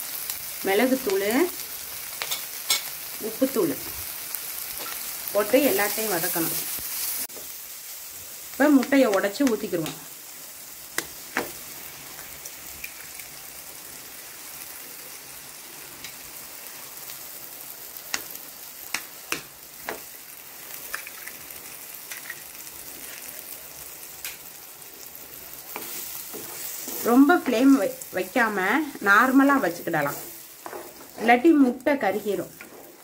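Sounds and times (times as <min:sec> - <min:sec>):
masala sizzling in oil: 0:00.0 - 0:33.0.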